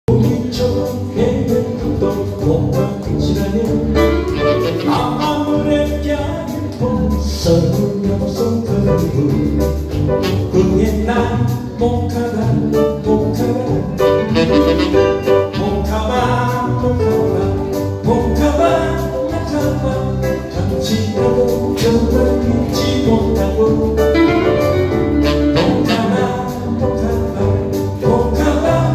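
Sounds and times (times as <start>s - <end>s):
saxophone guitar and keyboard music: 0.1s - 28.9s.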